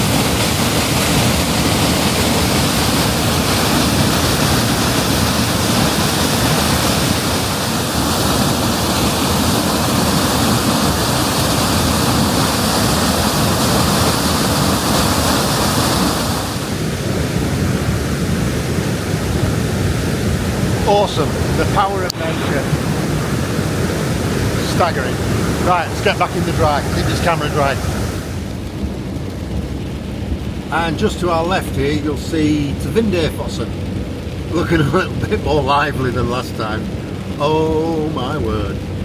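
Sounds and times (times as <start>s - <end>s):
waterfall rushing: 0.0s - 28.7s, 30.6s - 39.0s.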